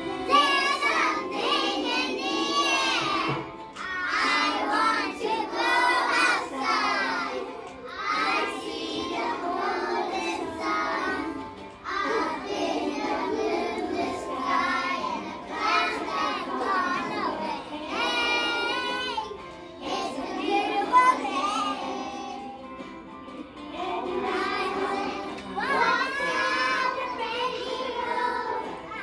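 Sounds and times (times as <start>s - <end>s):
child singing: 0.0s - 22.6s, 23.7s - 29.0s.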